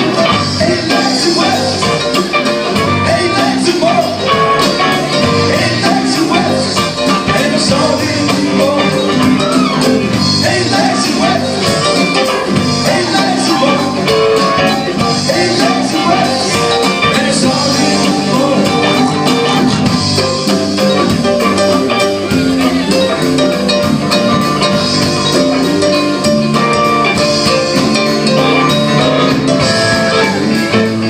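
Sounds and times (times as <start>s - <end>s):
guitar: 0.0s - 31.0s
live rock band playing: 0.0s - 31.0s
steady drumbeat: 0.0s - 31.0s.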